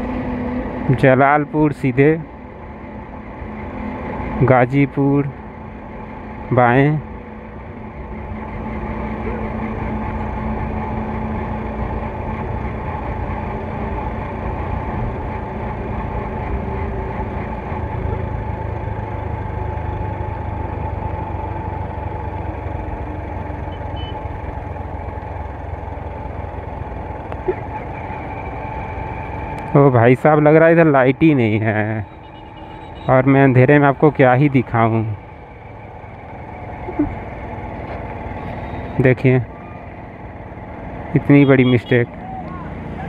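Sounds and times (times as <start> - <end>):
road and wind noise: 0.0 - 43.0
motorcycle engine running: 5.4 - 43.0.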